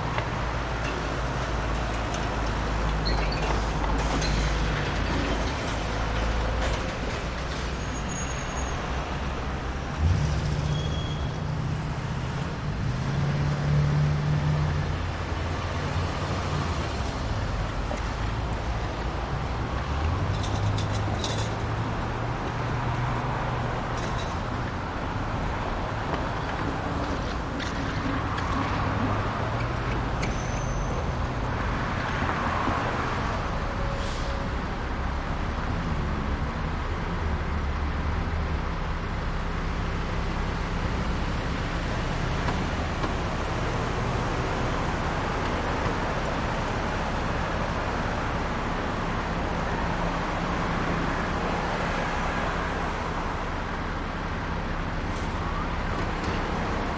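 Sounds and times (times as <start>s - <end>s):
traffic passing: 0.0s - 56.9s.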